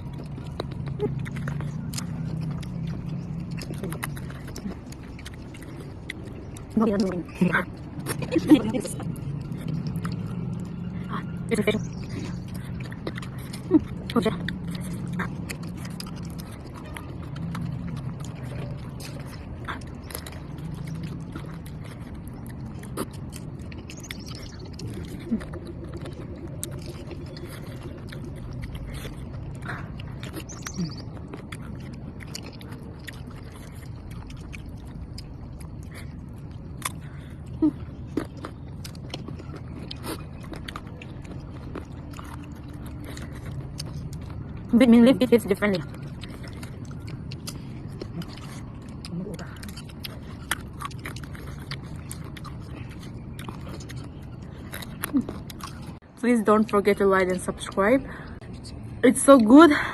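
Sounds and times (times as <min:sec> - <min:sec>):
faint low background murmur: 0:00.0 - 0:59.9
person chewing mango: 0:00.0 - 0:59.9.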